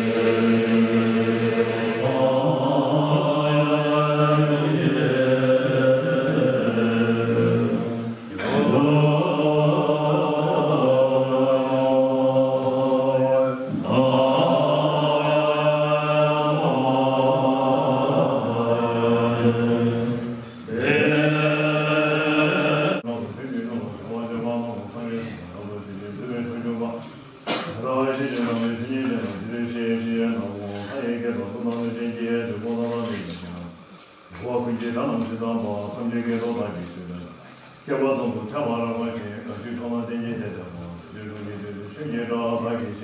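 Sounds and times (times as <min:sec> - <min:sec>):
men chanting in unison: 0:00.0 - 0:43.0.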